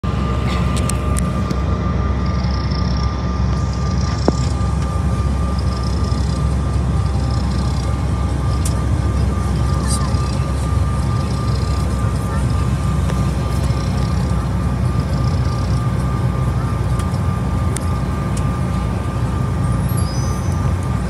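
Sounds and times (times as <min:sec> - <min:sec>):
jet engine rumble and whine: 0:00.0 - 0:21.0.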